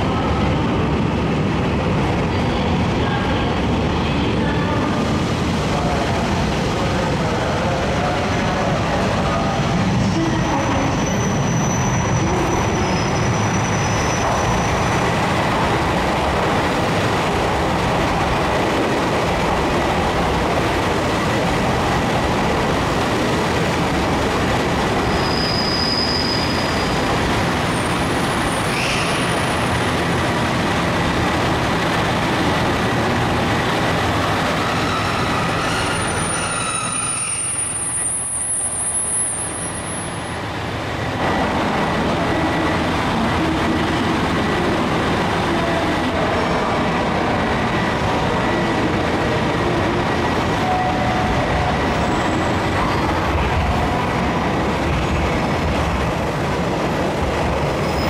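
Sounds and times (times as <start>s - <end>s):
diesel train running: 0.0s - 58.0s.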